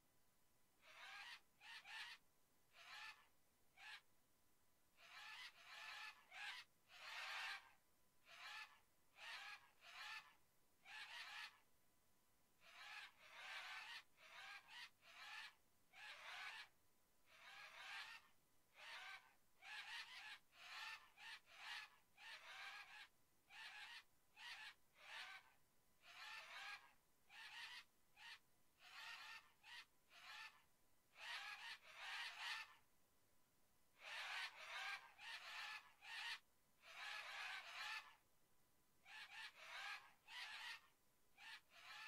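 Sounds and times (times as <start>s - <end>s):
faint birds calling: 0.8s - 4.1s, 5.0s - 11.7s, 12.6s - 32.9s, 34.0s - 38.2s, 39.0s - 42.0s.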